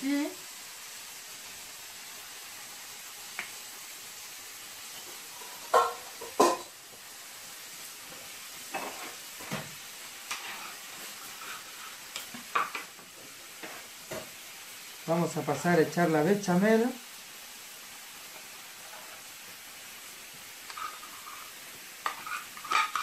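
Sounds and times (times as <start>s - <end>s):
low sizzling hiss: 0.0s - 23.0s.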